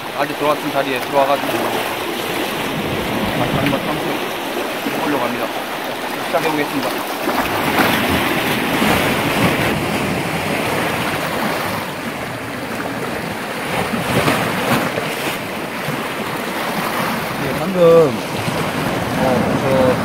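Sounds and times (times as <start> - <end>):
surf washing through rocks: 0.0 - 20.0
wind buffeting microphone: 1.6 - 20.0.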